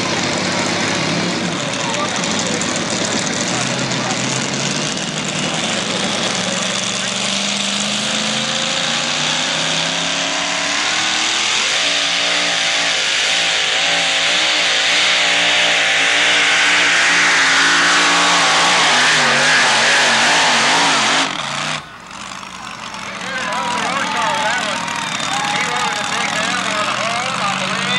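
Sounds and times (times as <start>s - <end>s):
supercharged engine at full throttle: 0.0s - 27.9s.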